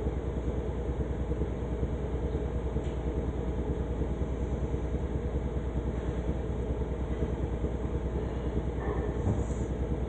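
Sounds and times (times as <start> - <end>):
machine humming and throbbing: 0.0 - 10.0.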